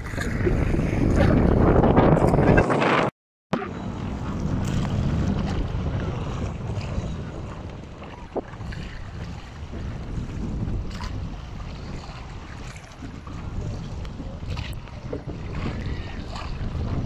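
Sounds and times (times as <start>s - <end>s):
choppy water: 0.0s - 17.0s
wind buffeting microphone: 0.0s - 17.0s.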